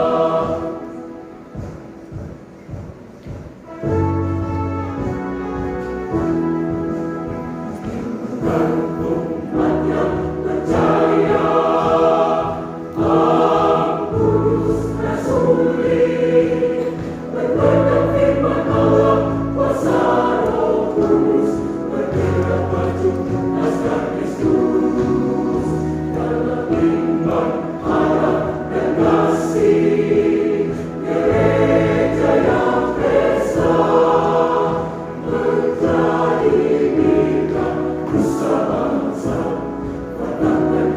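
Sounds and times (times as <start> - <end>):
church choir singing: 0.0 - 40.9.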